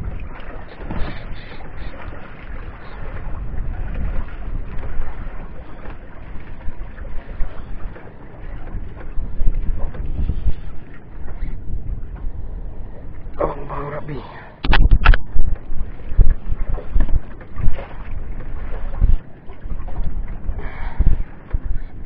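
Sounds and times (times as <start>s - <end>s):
sea washing against boat: 0.0s - 22.0s
wind buffeting microphone: 0.0s - 22.0s.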